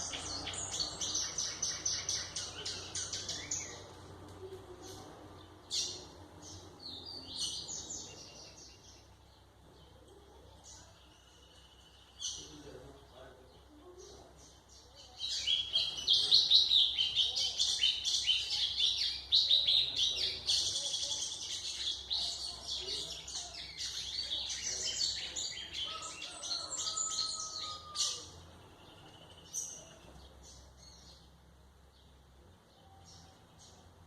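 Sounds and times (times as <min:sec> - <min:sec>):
bird singing twittering chirps: 0:00.0 - 0:34.0.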